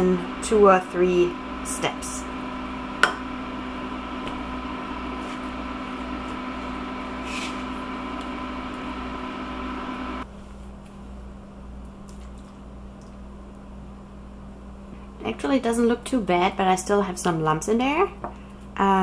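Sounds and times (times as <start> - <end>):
cooker hum and fan whir: 0.0 - 19.0.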